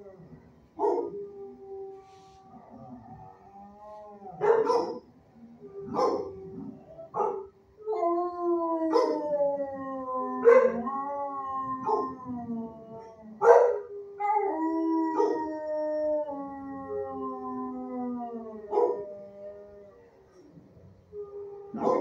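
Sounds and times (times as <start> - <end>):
dogs howling: 0.0 - 22.0.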